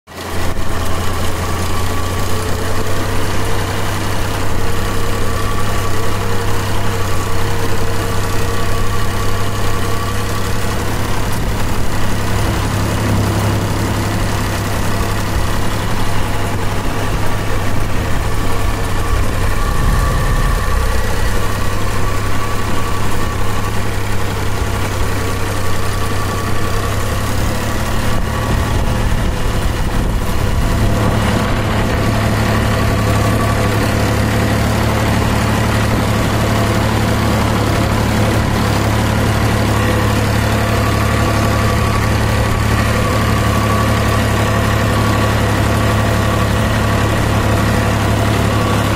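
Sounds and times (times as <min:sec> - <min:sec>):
tractor diesel engine running: 0:00.1 - 0:48.9.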